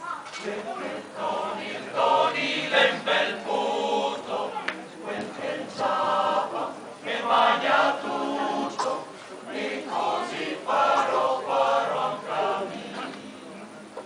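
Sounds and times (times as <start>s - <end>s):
male choir singing: 0.4s - 13.7s.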